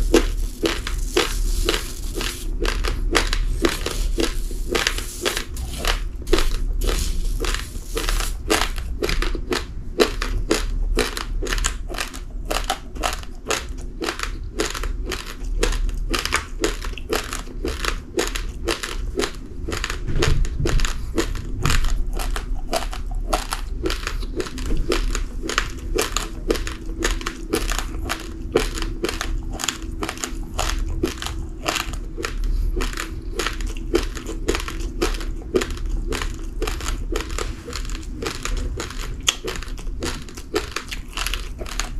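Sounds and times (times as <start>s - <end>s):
person chewing crunchy rice: 0.0s - 41.9s.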